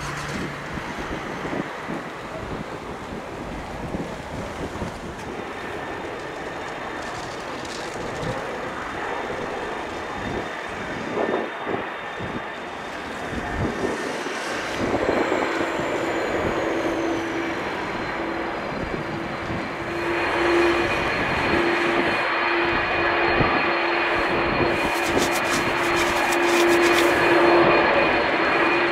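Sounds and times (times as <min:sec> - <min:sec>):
jet engines running: 0:00.0 - 0:28.9
wind buffeting microphone: 0:00.0 - 0:28.9.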